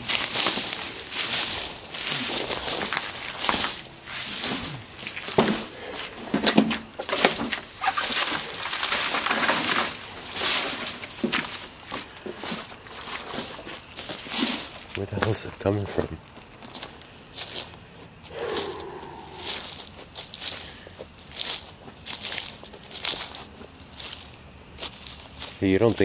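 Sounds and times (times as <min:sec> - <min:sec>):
footsteps crunching dry leaves: 0:00.0 - 0:06.3, 0:07.1 - 0:15.0, 0:16.6 - 0:17.7, 0:18.3 - 0:26.0.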